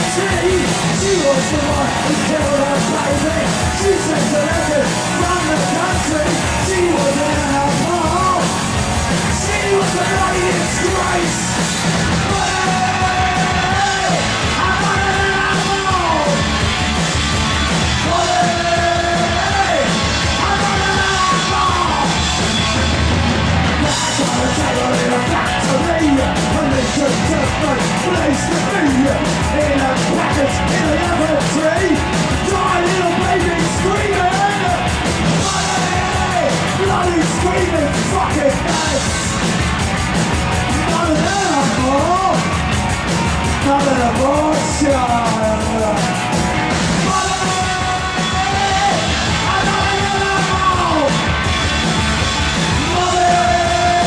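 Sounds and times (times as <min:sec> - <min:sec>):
male singer belting: 0:00.0 - 0:16.6, 0:18.0 - 0:22.4, 0:23.8 - 0:39.5, 0:40.6 - 0:42.6, 0:43.6 - 0:46.2, 0:46.9 - 0:51.6, 0:52.7 - 0:54.0.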